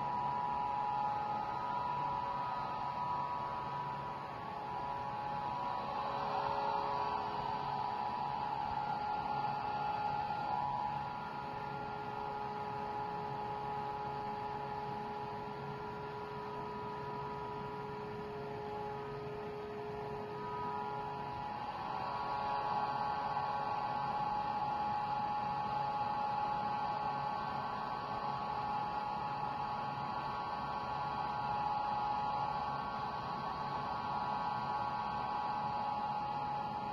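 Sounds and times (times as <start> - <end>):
electric motor hum: 0.0 - 36.9.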